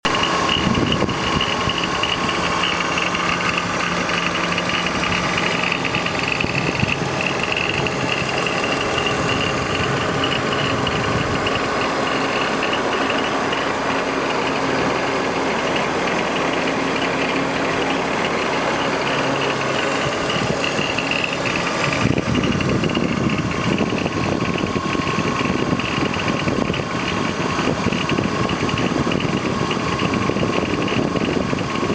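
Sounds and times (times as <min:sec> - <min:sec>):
car engine rattling: 0:00.0 - 0:31.9
high-pitched whirring: 0:00.0 - 0:31.9.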